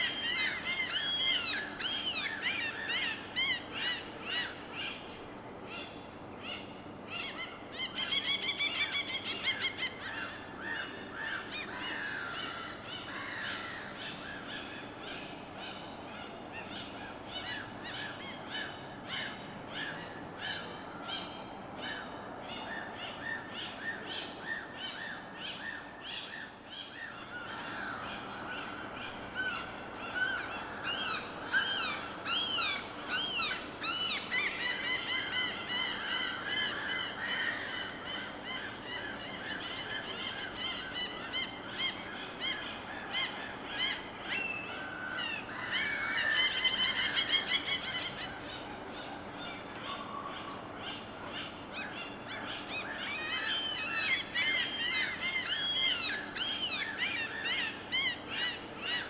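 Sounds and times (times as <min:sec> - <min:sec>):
birds calling: 0:05.8 - 0:59.0.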